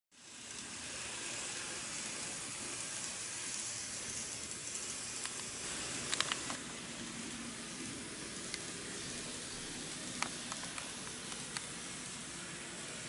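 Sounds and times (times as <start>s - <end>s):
model train wheels on rails: 0.2s - 13.0s.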